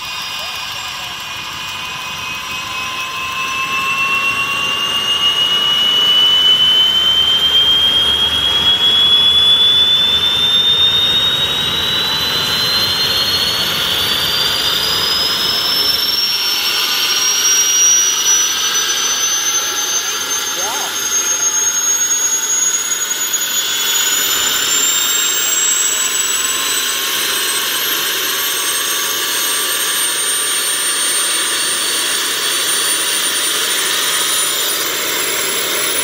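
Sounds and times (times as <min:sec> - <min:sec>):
turbine engine whine spooling up: 0:00.0 - 0:36.0.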